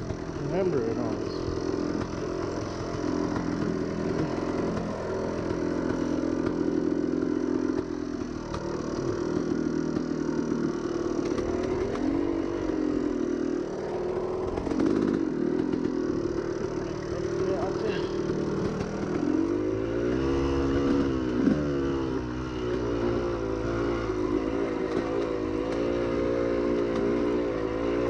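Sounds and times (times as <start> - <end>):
two-stroke dirt bike engine: 0.0 - 28.0.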